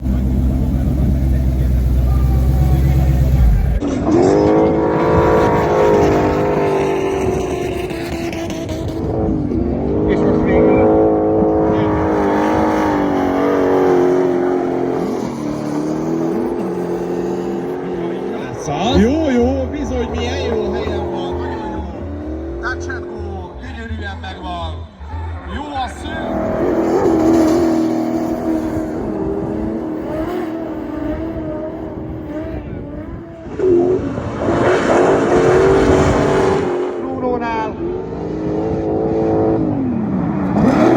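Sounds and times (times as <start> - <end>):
engine held at high revs: 0.0 - 24.4, 26.0 - 40.9.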